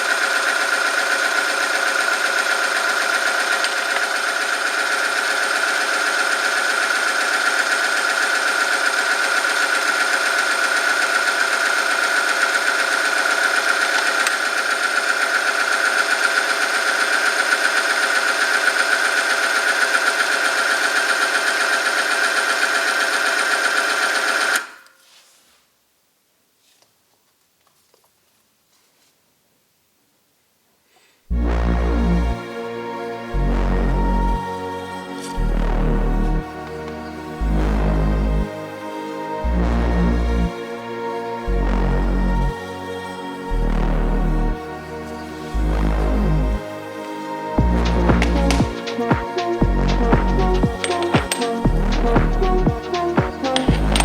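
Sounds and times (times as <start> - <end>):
test machine motor whining: 0.0 - 24.8, 33.4 - 54.0.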